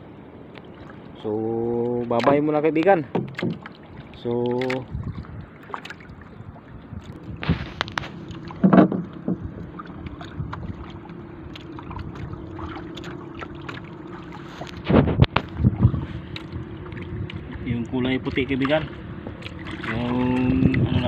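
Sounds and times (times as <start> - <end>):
water lapping around boat: 0.0 - 21.0
knocks and splashes: 0.5 - 21.0.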